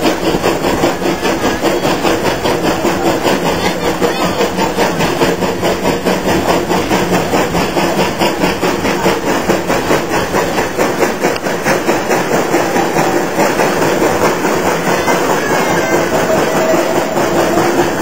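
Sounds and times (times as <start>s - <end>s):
steam locomotive exhaust chuff: 0.0s - 18.0s
train running noise: 0.0s - 18.0s.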